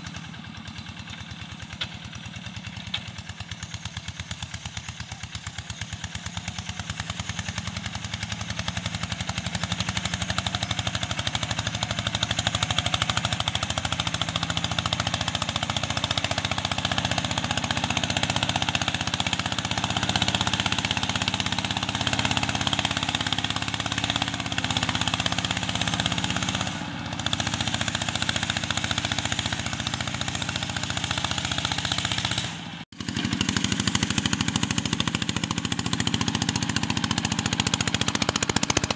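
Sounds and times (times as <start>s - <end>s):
diesel tractor engine chugging: 0.0s - 38.9s.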